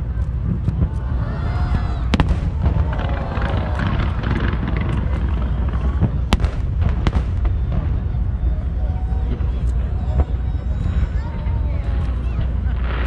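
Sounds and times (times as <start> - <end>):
low rumble: 0.0 - 13.0
fireworks bangs: 0.3 - 13.0.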